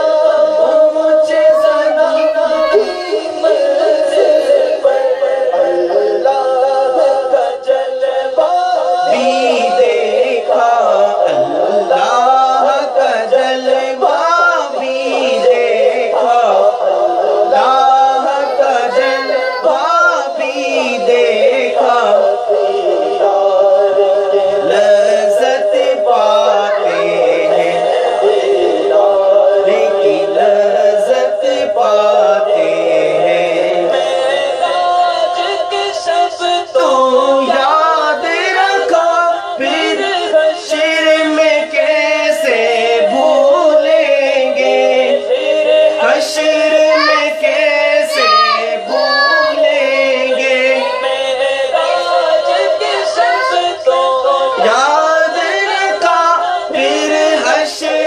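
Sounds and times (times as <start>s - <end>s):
processed voice singing: 0.0s - 58.0s.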